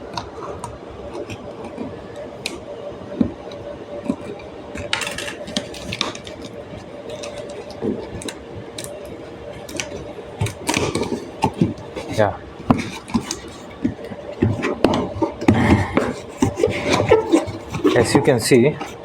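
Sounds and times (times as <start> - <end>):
packaging clicks and crackling: 3.2 - 19.0.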